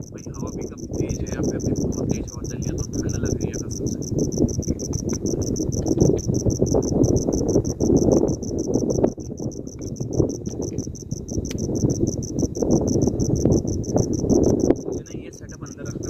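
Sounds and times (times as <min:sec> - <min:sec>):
insect chirping: 0:00.0 - 0:16.0
strong wind gusting: 0:00.0 - 0:16.0.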